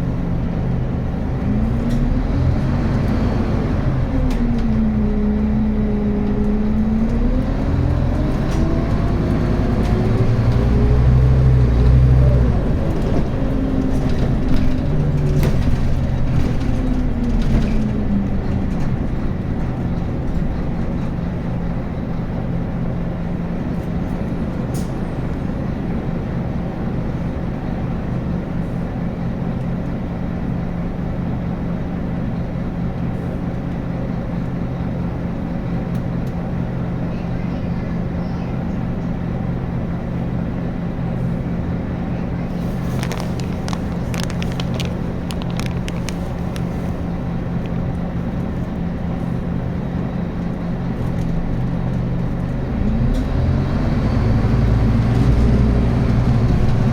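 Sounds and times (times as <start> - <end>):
bus diesel engine: 0.0 - 56.9.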